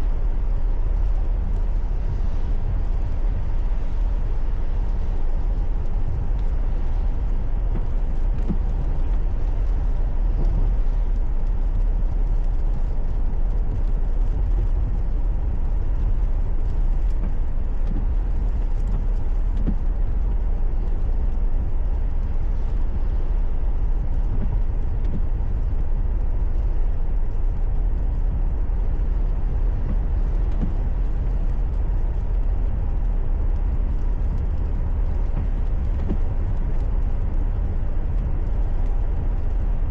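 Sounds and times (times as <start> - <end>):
car interior rumble: 0.0 - 39.9.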